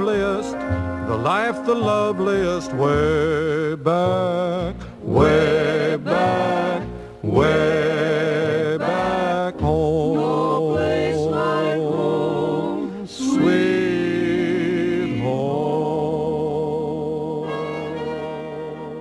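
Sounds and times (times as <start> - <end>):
vocal group singing: 3.5 - 19.0.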